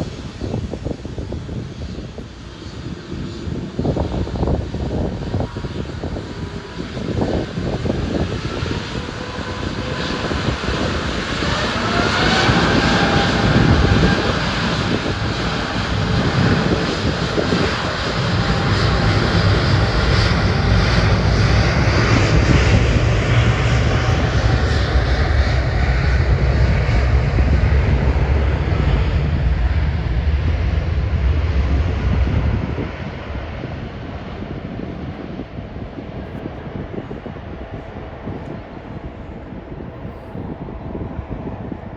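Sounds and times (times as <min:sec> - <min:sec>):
jet engine low rumble: 0:00.0 - 0:41.9
jet engine whine: 0:00.0 - 0:41.9.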